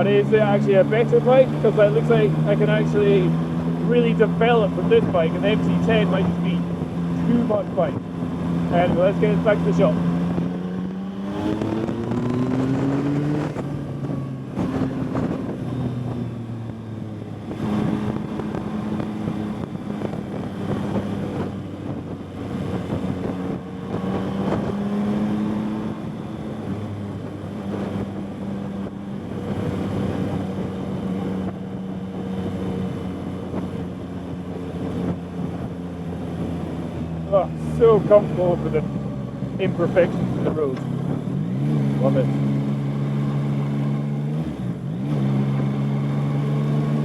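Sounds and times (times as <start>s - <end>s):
motorcycle engine accelerating: 0.0s - 47.0s
wind rushing over microphone: 0.0s - 47.0s.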